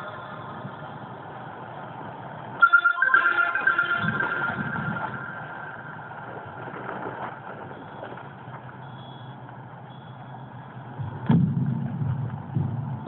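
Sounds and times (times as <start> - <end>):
low outdoor hum: 0.0 - 13.0.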